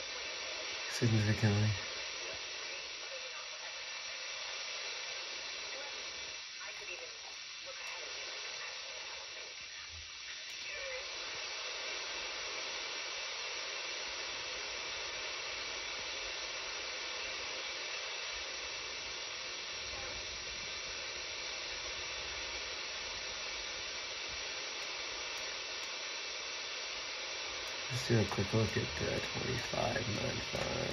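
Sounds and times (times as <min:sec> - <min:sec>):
radio receiver hiss: 0:00.0 - 0:30.9.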